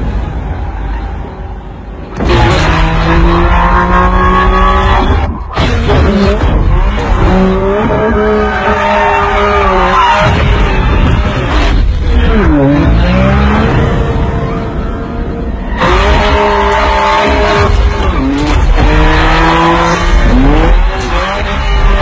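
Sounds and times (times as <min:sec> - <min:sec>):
car engine revving: 0:02.1 - 0:22.0.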